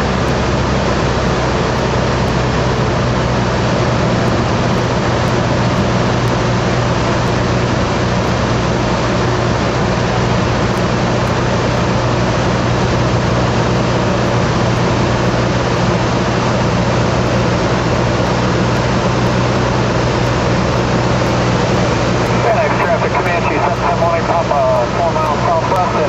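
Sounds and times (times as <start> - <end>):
aircraft engine drone in cabin: 0.0 - 26.0
airflow noise: 0.0 - 26.0.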